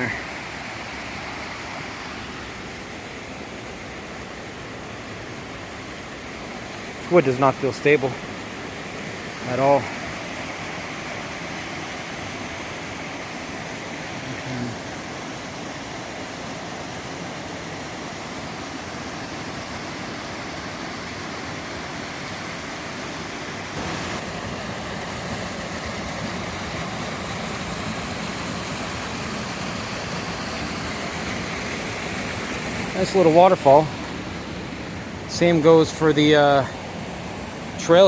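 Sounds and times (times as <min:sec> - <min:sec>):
rush of falling water: 0:00.0 - 0:38.0.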